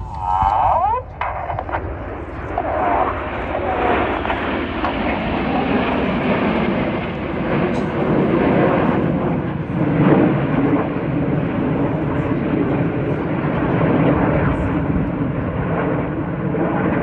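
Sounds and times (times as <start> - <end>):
jet aircraft flying overhead: 0.0 - 17.0.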